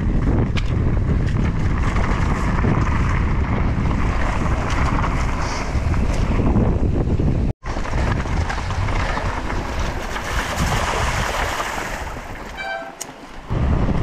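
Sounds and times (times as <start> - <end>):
wind rushing over microphone: 0.0 - 12.7, 13.4 - 14.0
tyre and trail rumble: 0.0 - 14.0.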